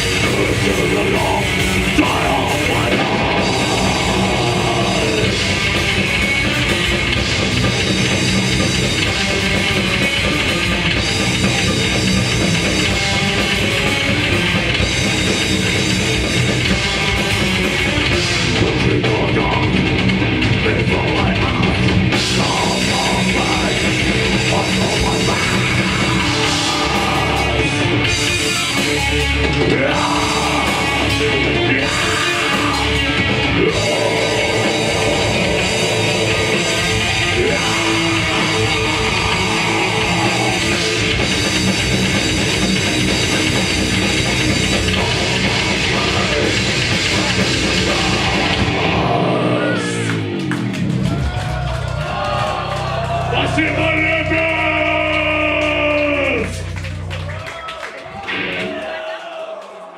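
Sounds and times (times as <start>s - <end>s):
drum kit: 0.0s - 57.5s
heavily distorted guitars: 0.0s - 59.2s.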